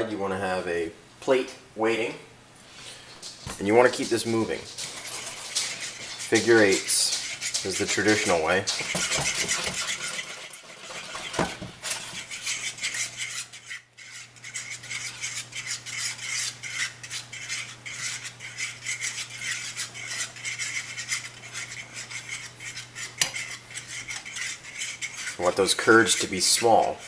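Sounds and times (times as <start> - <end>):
fork scraping a pan: 3.2 - 27.0.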